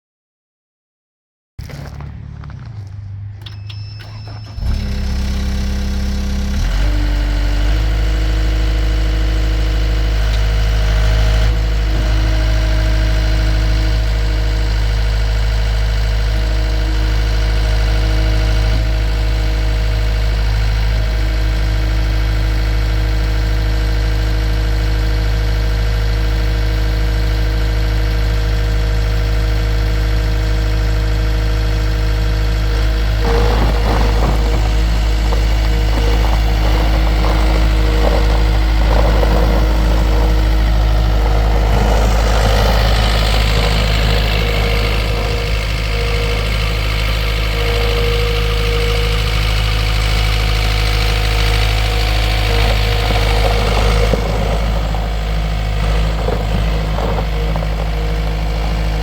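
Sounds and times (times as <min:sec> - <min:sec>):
engine starting and running: 0:01.6 - 0:59.0.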